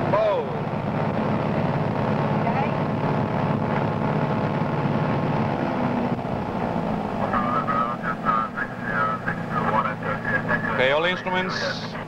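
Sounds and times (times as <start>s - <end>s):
light aircraft piston engine: 0.0s - 12.0s.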